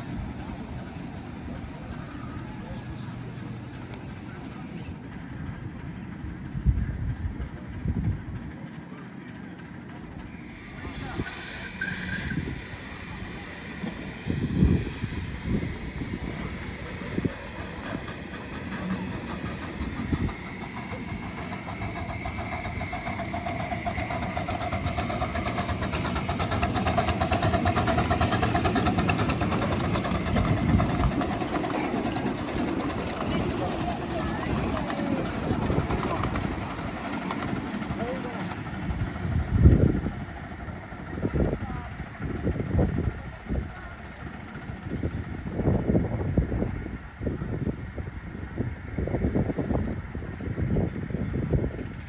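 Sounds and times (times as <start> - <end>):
miniature train running on track: 0.0 - 52.0.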